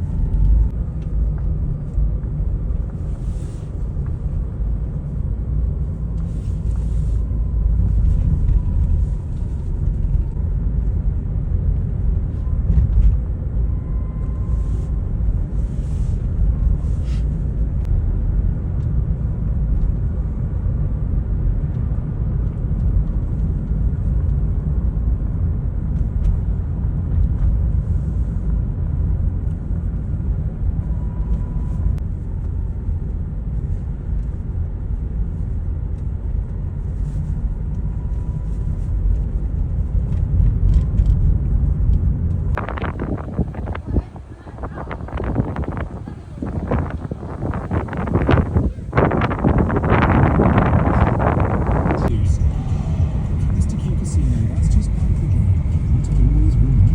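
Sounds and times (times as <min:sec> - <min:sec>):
low city rumble: 0:00.0 - 0:56.9.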